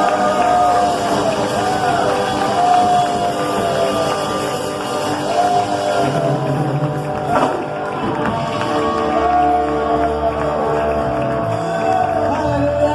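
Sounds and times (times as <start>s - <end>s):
worship band instrumental music: 0.0s - 12.9s.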